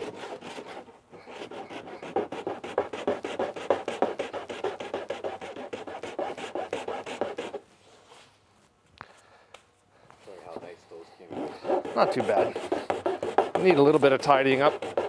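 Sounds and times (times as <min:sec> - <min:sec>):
hand file rasping on plastic: 0:00.0 - 0:07.6, 0:10.4 - 0:15.0.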